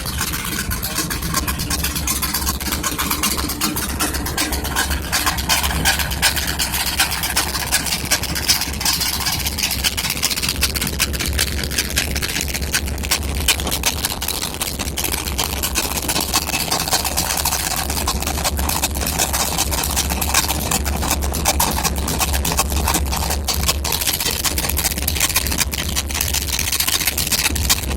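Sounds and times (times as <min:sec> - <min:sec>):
engine idling: 0:00.0 - 0:27.9
uneven engine ticking: 0:00.0 - 0:27.9.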